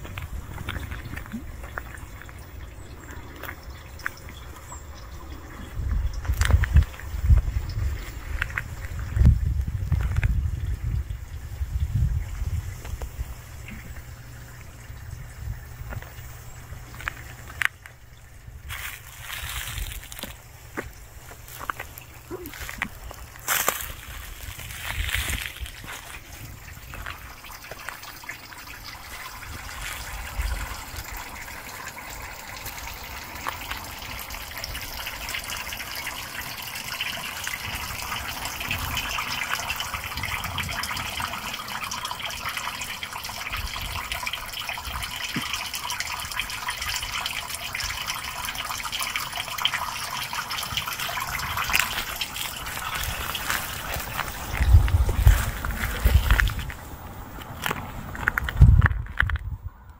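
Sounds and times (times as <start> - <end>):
running water: 0.0 - 58.6.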